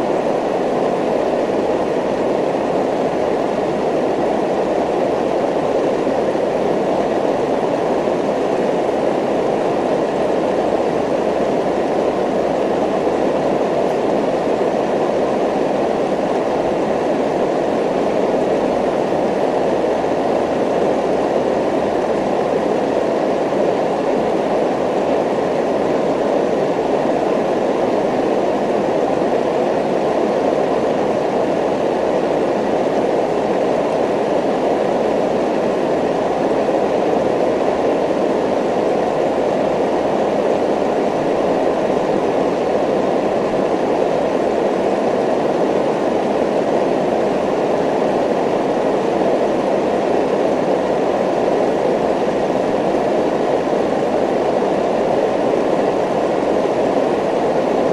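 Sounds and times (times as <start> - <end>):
steady rushing noise: 0.0 - 57.9.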